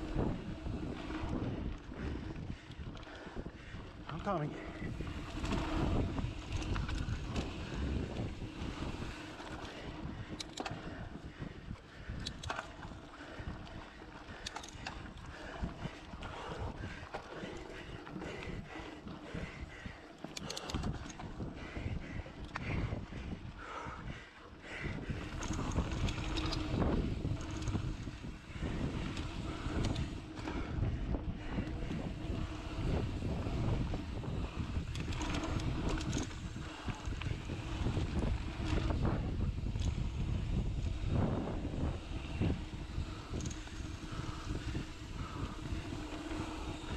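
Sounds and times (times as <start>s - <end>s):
bike rattling over bumps: 0.0s - 46.9s
bike tyres on dirt: 0.0s - 46.9s
wind buffeting microphone: 0.0s - 46.9s.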